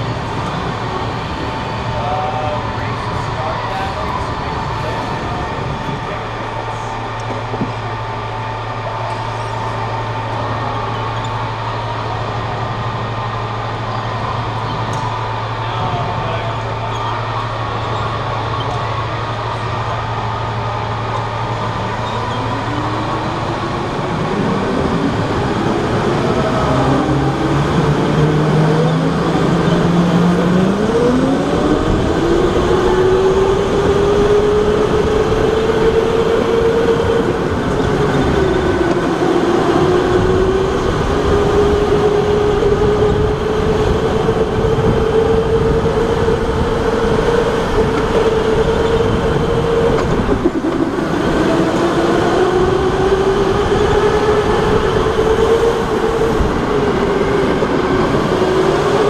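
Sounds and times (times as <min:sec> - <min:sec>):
other karts' motors: 0:00.0 - 0:59.0.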